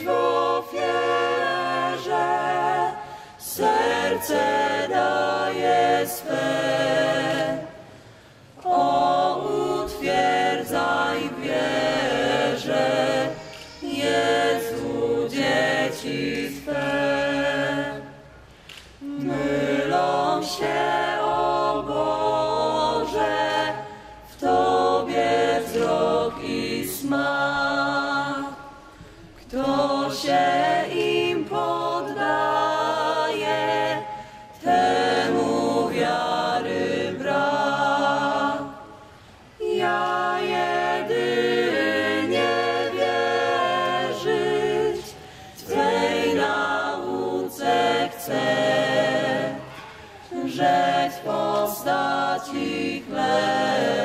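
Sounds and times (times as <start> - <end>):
group singing a cappella: 0.0 - 54.0.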